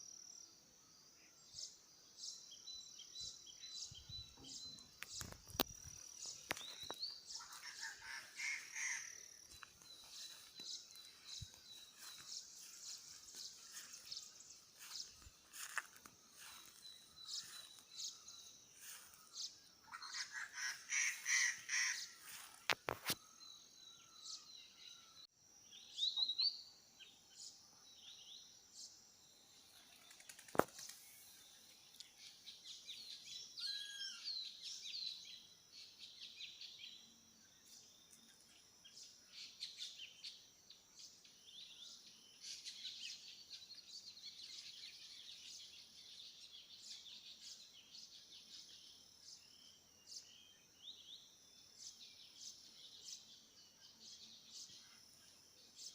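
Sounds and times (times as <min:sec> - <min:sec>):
birds chirping and trilling: 0:00.0 - 0:55.9.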